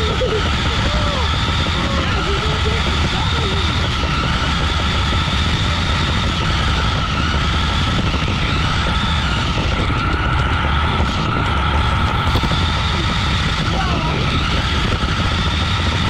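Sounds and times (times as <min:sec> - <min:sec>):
electric motor whine: 0:00.0 - 0:16.0
wheels and chassis rumbling: 0:00.0 - 0:16.0.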